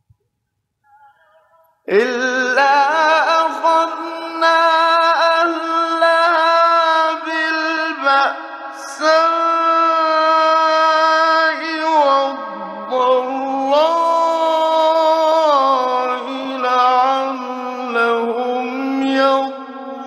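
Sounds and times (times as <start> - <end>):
man reciting melodically: 0.9 - 20.0.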